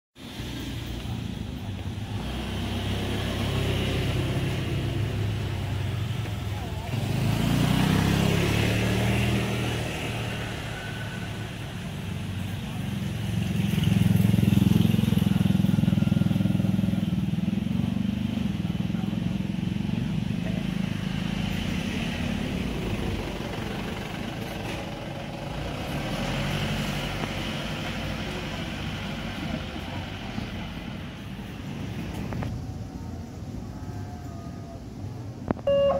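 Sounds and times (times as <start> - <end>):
pickup truck engine passing: 0.2 - 33.4
street background noise: 0.2 - 35.9
motorcycle engine passing: 2.0 - 32.0.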